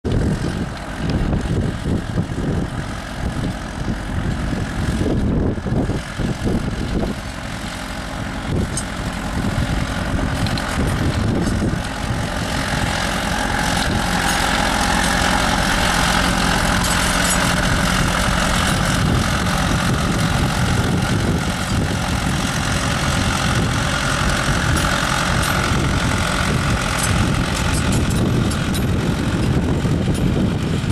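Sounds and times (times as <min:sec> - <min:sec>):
tractor diesel engine under load: 0:00.0 - 0:30.9.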